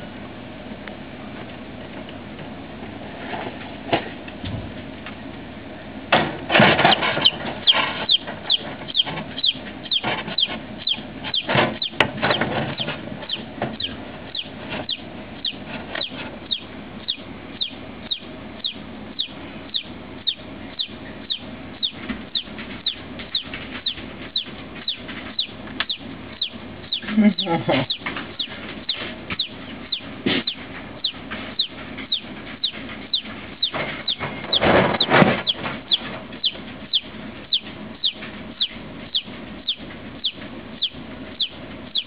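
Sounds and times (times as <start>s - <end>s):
baby chicks peeping: 1.4s - 42.0s.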